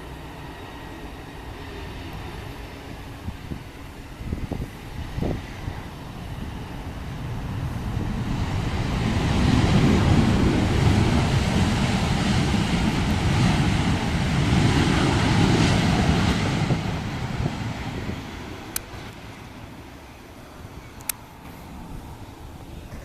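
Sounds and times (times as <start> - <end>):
jet engines of passing airliner: 0.0 - 23.0
wind buffeting microphone: 0.0 - 23.0.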